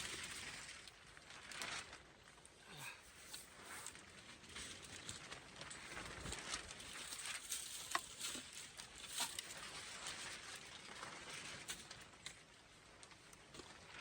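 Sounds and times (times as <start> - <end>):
scratching and rustling: 2.7 - 14.0.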